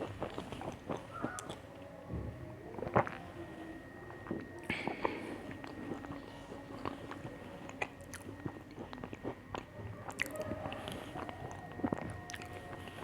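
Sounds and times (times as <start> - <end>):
chewing crunchy biscuits: 0.0 - 2.0, 2.7 - 13.0.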